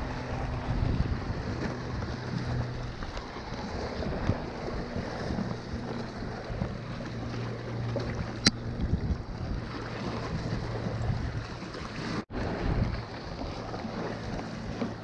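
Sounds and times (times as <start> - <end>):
waves breaking against rocks: 0.0 - 15.0
wind buffeting microphone: 0.0 - 15.0.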